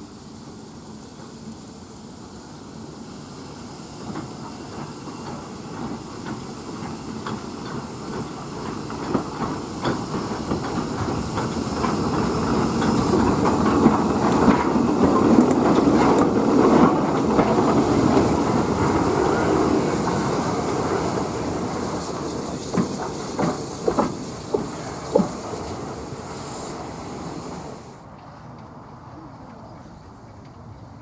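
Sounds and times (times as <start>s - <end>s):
train running noise: 0.0s - 31.0s.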